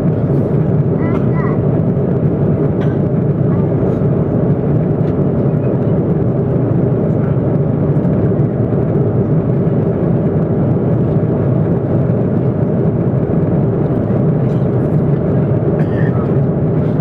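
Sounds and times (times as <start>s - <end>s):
aircraft cabin engine roar: 0.0s - 17.0s.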